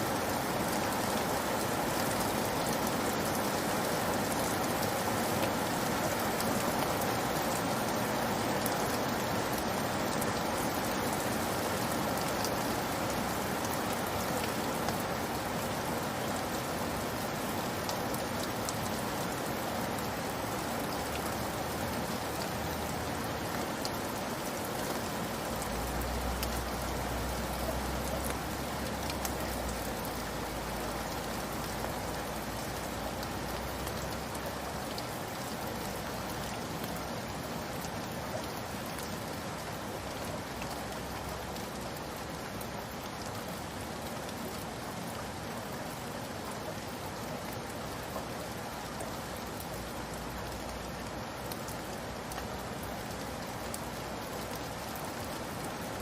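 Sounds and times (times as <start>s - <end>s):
raindrops pattering: 0.0s - 56.0s.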